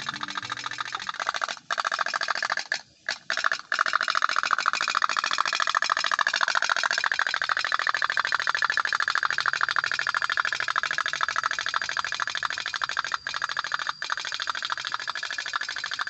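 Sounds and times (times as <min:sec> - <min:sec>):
toy steam boat popping: 0:00.0 - 0:16.0.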